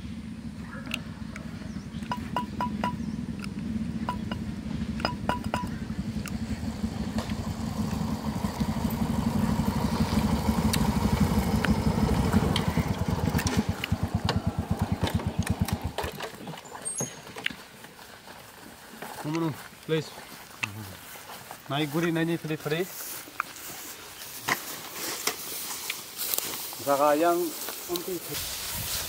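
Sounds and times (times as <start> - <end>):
motorcycle engines running: 0.0 - 29.0.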